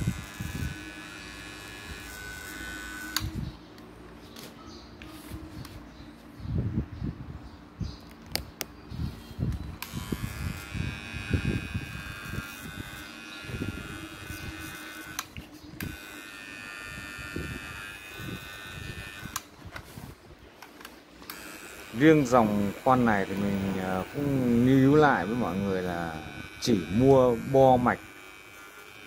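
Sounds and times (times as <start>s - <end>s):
soldering gun electrical hum: 0.0s - 5.9s, 9.4s - 29.0s.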